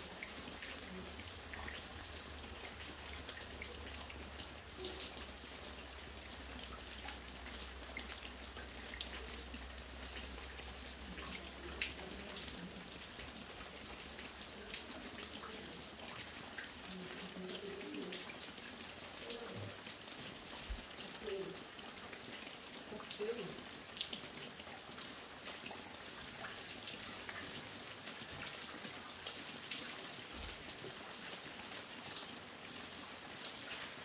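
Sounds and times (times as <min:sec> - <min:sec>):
fine rain falling: 0:00.0 - 0:34.0
water dripping from a roof: 0:00.0 - 0:34.0.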